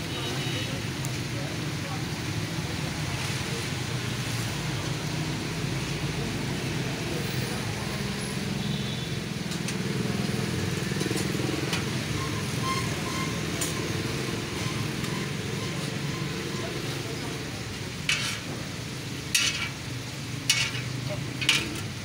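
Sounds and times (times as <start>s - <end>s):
road traffic hum: 0.0s - 22.0s.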